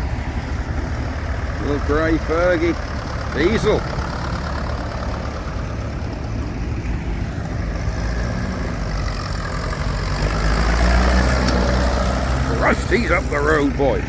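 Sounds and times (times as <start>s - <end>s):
tractor diesel engine driving past: 0.0s - 14.0s.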